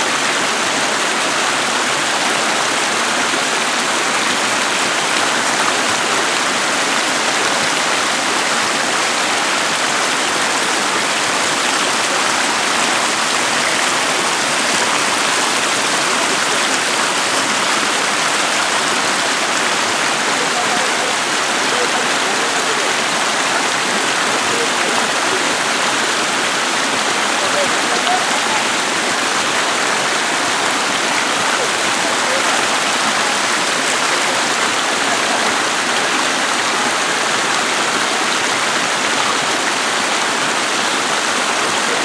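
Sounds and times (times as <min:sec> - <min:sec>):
creek water over rocks: 0:00.0 - 0:42.0.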